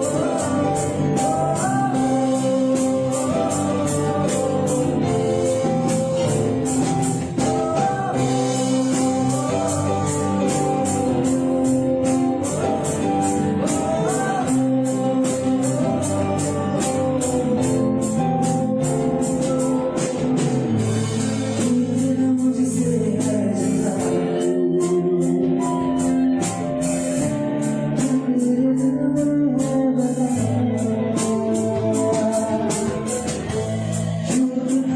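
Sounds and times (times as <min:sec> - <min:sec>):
live band music: 0:00.0 - 0:34.9
person singing: 0:00.0 - 0:34.9.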